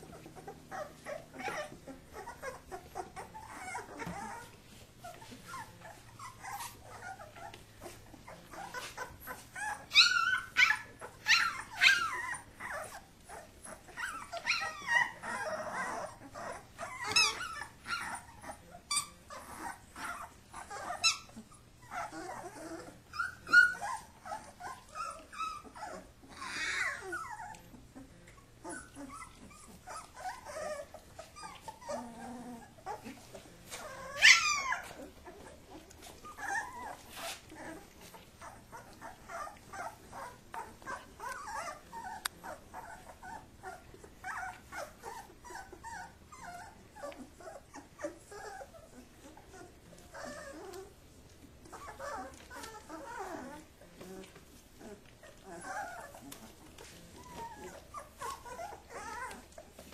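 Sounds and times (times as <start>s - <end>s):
puppy yelping: 0.0s - 51.0s, 51.6s - 59.9s
puppies growling and yipping: 0.0s - 59.9s.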